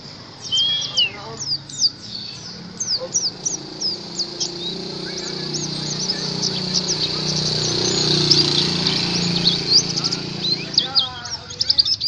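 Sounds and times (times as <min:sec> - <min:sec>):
low hum: 0:00.0 - 0:11.4
bird song chirps and whistles: 0:00.0 - 0:12.0.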